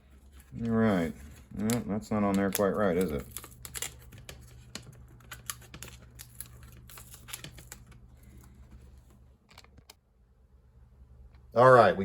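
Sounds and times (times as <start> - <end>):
hands handling discs clicks and scrapes: 0.0 - 9.9
steady low hum: 0.0 - 12.0.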